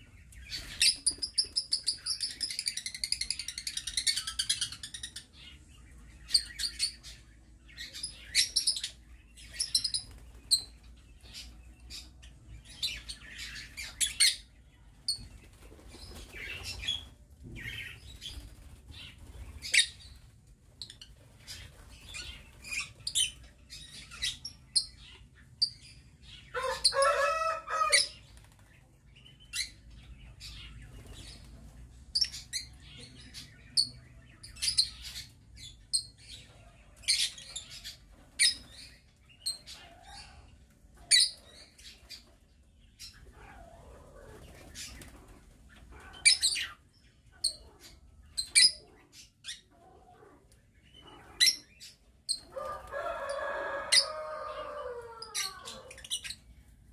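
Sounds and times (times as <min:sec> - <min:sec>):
lovebirds chirping: 0:00.0 - 0:56.9.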